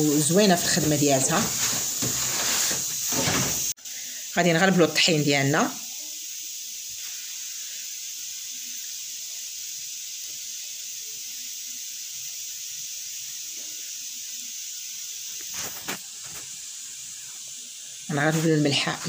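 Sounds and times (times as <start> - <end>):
flour sifting rustles: 0.0 - 9.6, 12.5 - 19.0
steady high hiss: 0.0 - 19.0.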